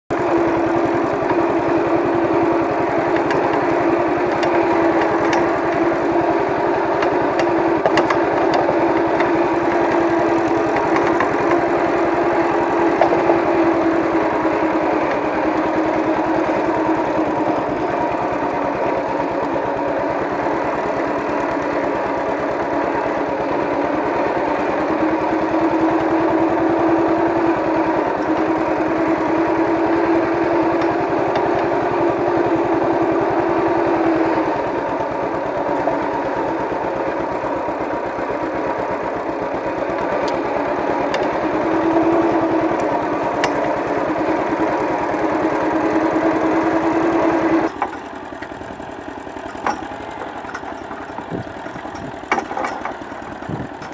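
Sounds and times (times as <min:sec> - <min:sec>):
tractor engine running: 0:00.1 - 0:53.9.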